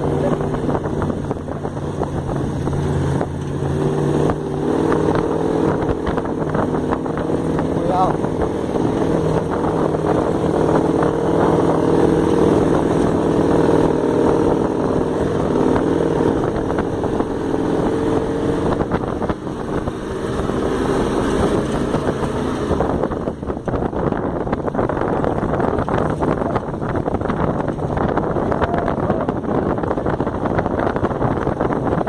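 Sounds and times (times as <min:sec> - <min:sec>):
dune buggy engine running: 0:00.0 - 0:32.0
rushing wind: 0:00.0 - 0:32.0.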